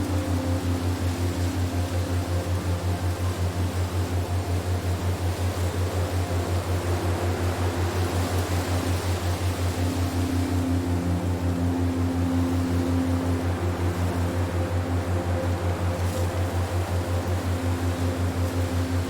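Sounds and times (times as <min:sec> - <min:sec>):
pulsing low hum: 0:00.0 - 0:19.0
wind-like hiss: 0:00.0 - 0:19.0.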